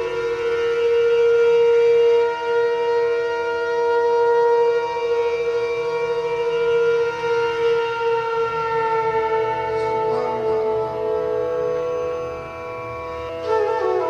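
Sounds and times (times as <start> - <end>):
instrumental music with sustained notes: 0.0 - 14.0
steady drone: 0.0 - 14.0.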